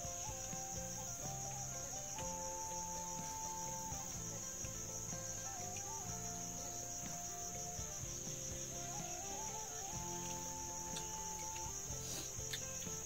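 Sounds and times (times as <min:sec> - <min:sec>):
high-pitched insect drone: 0:00.0 - 0:13.0
soft music of long held notes: 0:00.0 - 0:13.0.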